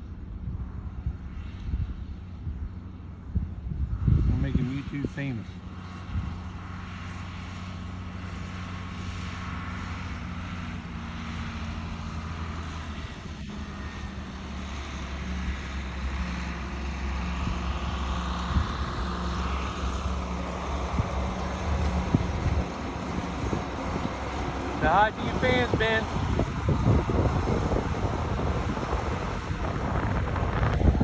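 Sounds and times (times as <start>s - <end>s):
tractor engine running: 4.9s - 31.0s.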